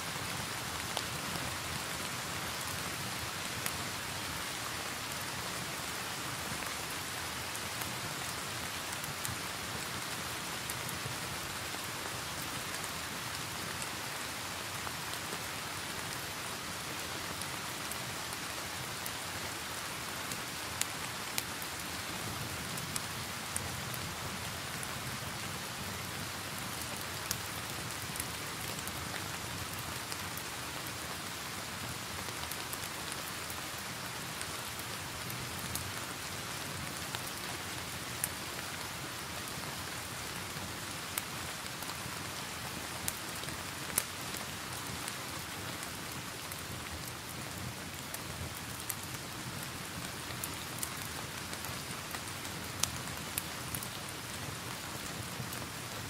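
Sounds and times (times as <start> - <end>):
rain falling: 0.0 - 56.0
log fire crackling: 0.2 - 56.0.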